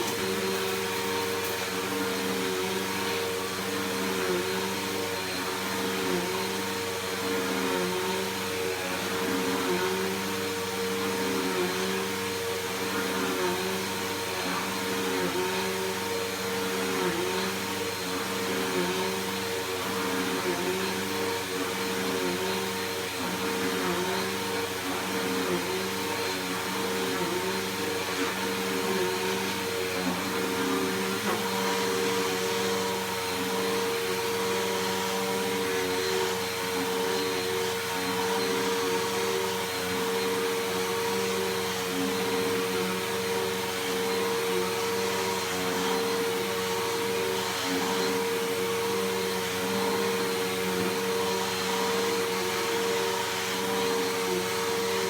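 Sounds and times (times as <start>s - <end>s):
upright vacuum cleaner running: 0.0s - 55.0s.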